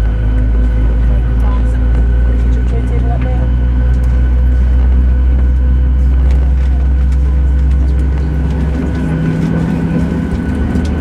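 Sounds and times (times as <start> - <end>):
airplane cabin low hum: 0.0 - 11.0.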